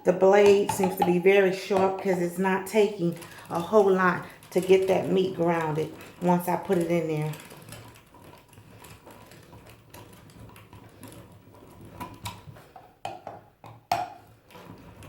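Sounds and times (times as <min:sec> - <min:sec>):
hand-cranked meat grinder clicking: 0:00.0 - 0:15.0.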